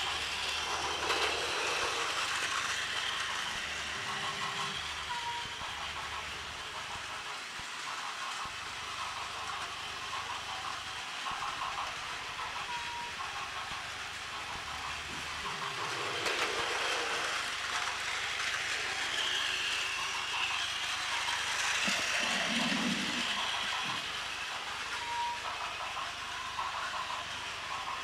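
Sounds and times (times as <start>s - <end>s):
toy train motors whirring: 0.0s - 28.0s.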